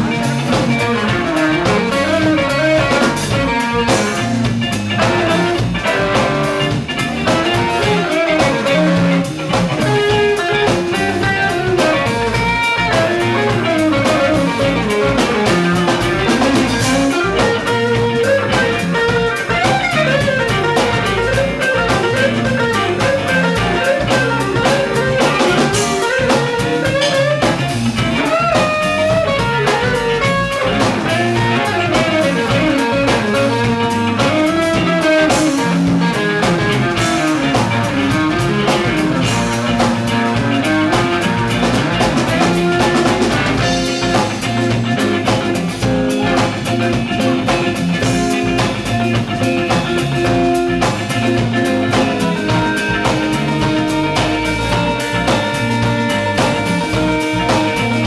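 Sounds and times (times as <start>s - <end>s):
bass guitar: 0.0s - 58.0s
drum kit: 0.0s - 58.0s
electric blues band playing: 0.0s - 58.0s
electric guitar bending notes: 0.0s - 58.0s
second electric guitar: 0.0s - 58.0s.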